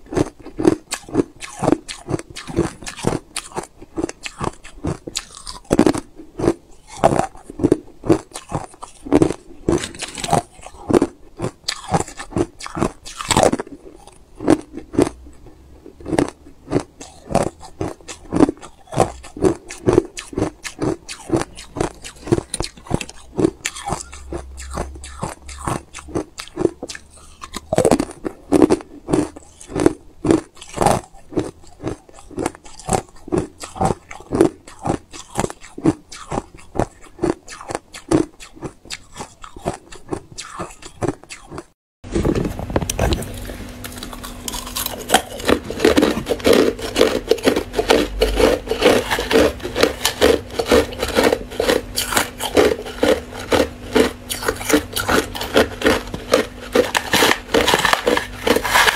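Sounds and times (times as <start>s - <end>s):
ice being chewed: 0.0s - 58.9s.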